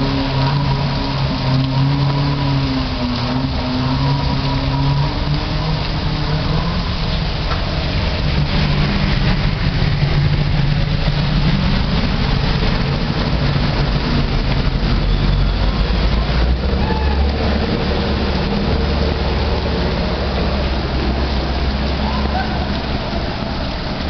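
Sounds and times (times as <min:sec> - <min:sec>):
hiss of rain and water: 0:00.0 - 0:24.0.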